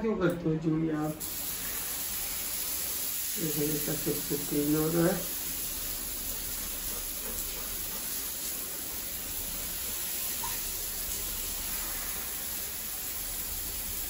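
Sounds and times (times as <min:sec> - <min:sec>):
water spraying on tiled floor: 0:01.2 - 0:14.0.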